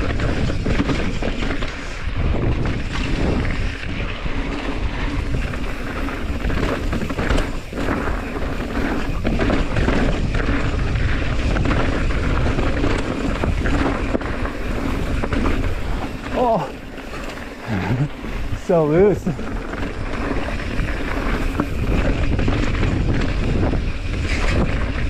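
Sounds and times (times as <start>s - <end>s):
wind on microphone: 0.0s - 17.0s, 17.7s - 25.0s
bike knocking on rocks: 0.0s - 17.6s, 18.2s - 25.0s
tyres rolling on dirt: 0.0s - 25.0s.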